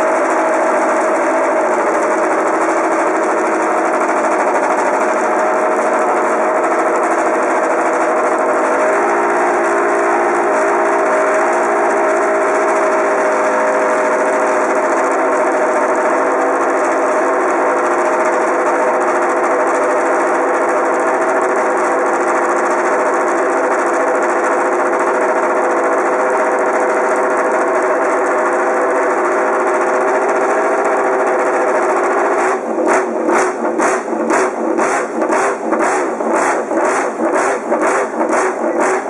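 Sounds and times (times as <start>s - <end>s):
racing motorcycle engine revving: 0.0s - 39.0s.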